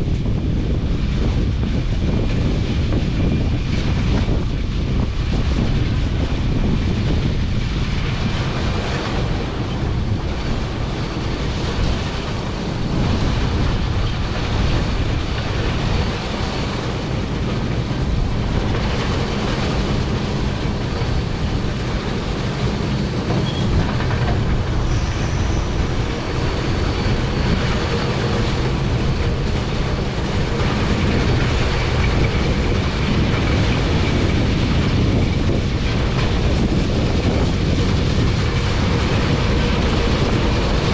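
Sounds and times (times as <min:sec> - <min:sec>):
combine harvester engine and threshing: 0:00.0 - 0:40.9.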